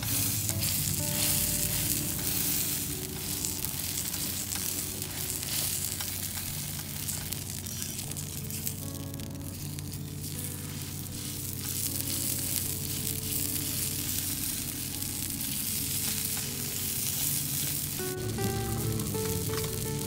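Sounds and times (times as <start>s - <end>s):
patty sizzling on griddle: 0.0s - 20.0s.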